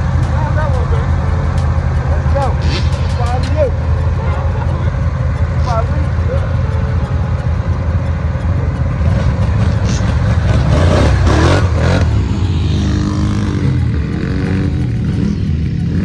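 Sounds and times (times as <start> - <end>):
quad engine revving: 0.0 - 16.0.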